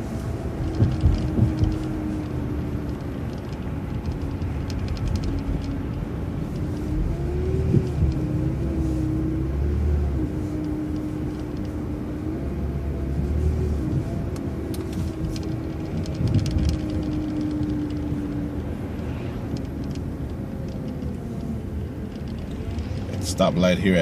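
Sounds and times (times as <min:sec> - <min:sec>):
bus engine and road rumble: 0:00.0 - 0:24.0
bus whine: 0:00.0 - 0:24.0.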